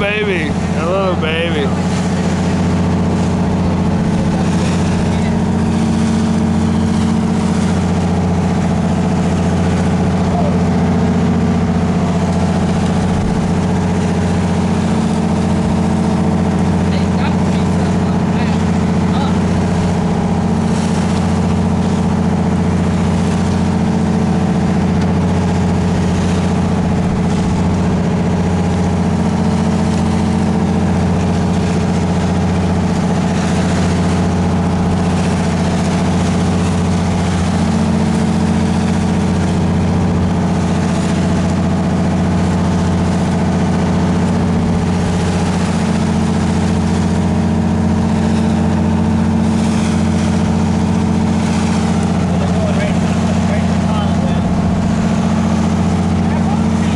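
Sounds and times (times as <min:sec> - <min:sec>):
boat engine droning: 0:00.0 - 0:56.9
water rushing: 0:00.0 - 0:56.9.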